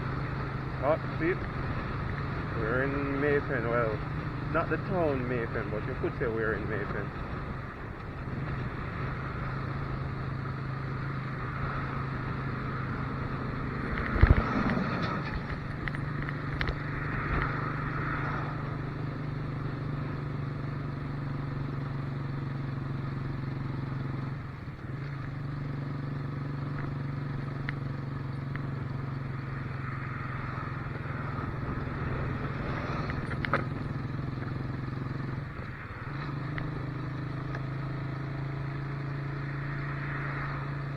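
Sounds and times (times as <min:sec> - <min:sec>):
motorcycle engine running: 0:00.0 - 0:40.9
road and wind noise: 0:00.0 - 0:40.9.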